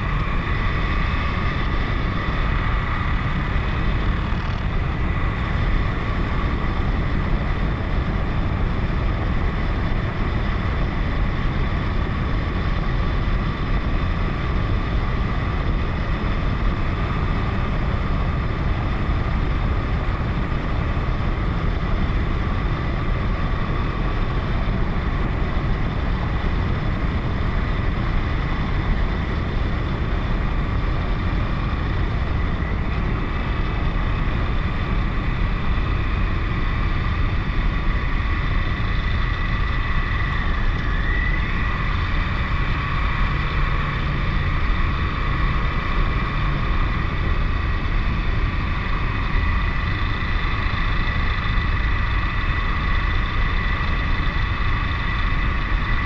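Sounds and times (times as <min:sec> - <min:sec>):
motorcycle engine running: 0:00.0 - 0:56.0
steady high whine: 0:00.0 - 0:56.0
wind noise: 0:00.0 - 0:56.0.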